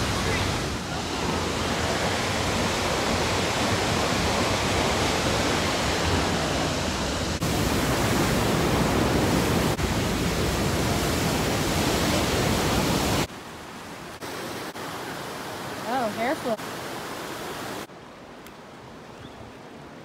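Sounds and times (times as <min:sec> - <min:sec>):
large waterfall rushing: 0:00.0 - 0:20.0.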